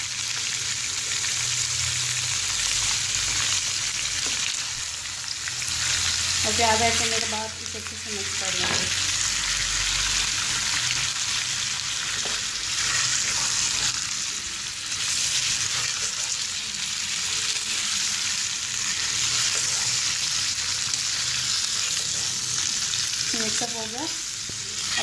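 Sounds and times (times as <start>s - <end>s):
chicken and onions sizzling in oil: 0.0s - 25.0s.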